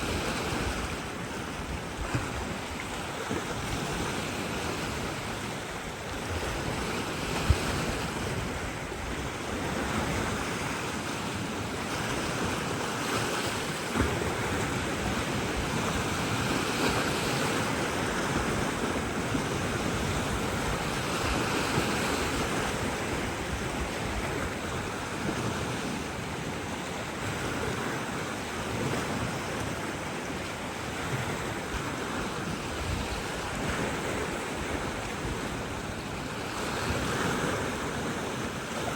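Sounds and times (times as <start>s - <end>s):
surf washing on shore: 0.0s - 38.9s
wind on microphone: 0.0s - 38.9s.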